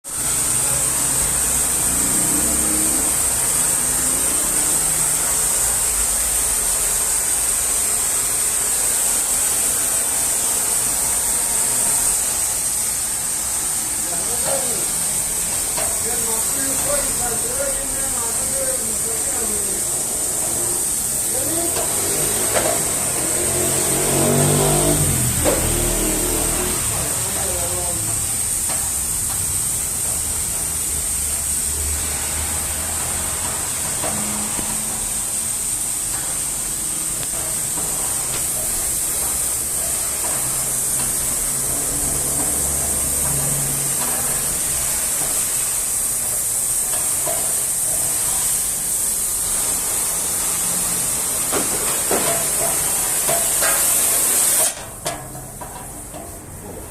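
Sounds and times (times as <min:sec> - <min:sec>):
welding arc sizzling: 0:00.1 - 0:56.9.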